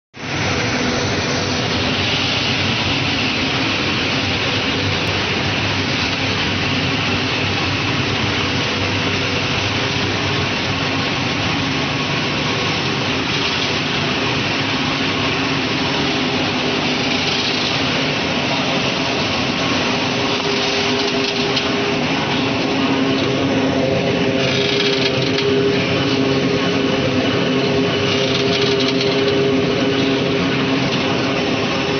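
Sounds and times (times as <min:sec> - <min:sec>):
drying machinery running: 0:00.2 - 0:31.9.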